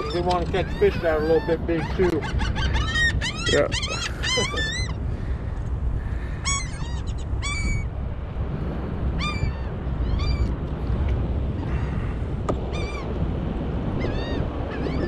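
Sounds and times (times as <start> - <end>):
gulls calling: 0.0 - 8.0, 9.1 - 10.7, 11.4 - 15.0.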